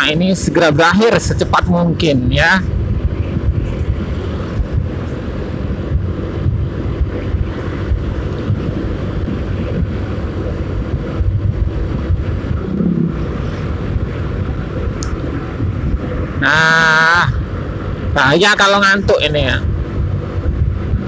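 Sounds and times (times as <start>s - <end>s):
road noise: 0.0s - 21.0s
wind rushing over microphone: 0.0s - 21.0s
motorcycle engine running: 1.4s - 21.0s.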